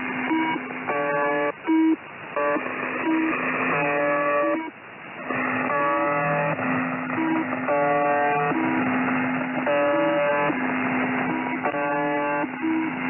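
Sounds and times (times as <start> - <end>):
harsh buzzing radio tones: 0.0 - 13.0
radio static hiss: 0.0 - 13.0.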